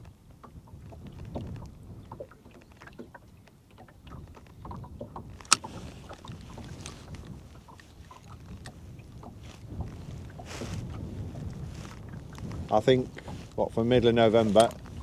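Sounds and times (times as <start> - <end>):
waves lapping against boat hull: 0.0 - 15.0
wind rumbling on microphone: 0.0 - 15.0.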